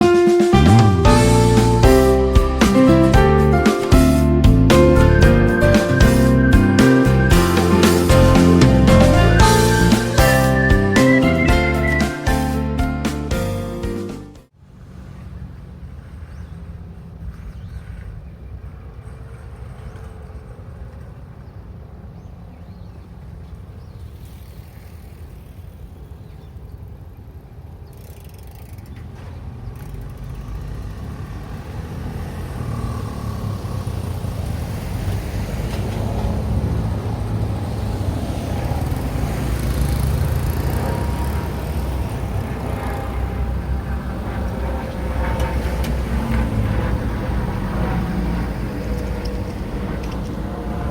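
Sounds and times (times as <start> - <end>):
road traffic engine and tyre rumble: 0.0 - 50.9.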